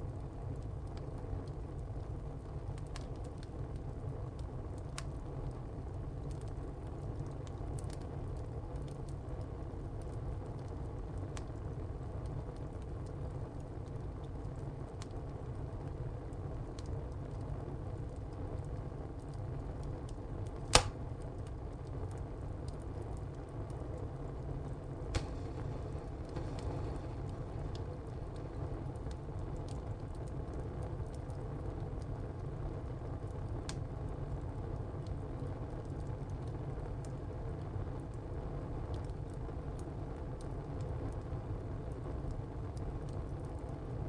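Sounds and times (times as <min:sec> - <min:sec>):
wood fire rumbling: 0:00.0 - 0:44.0
wood crackling and cracking: 0:00.6 - 0:37.2, 0:38.9 - 0:41.3.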